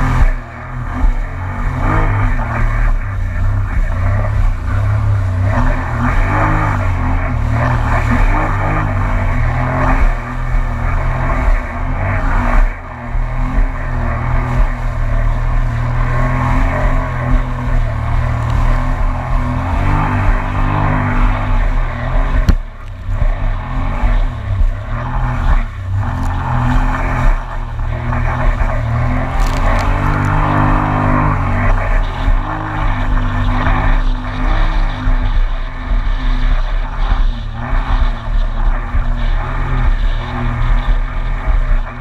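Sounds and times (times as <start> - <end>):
personal watercraft engine running: 0.0 - 42.0
water and wind rushing: 0.0 - 42.0.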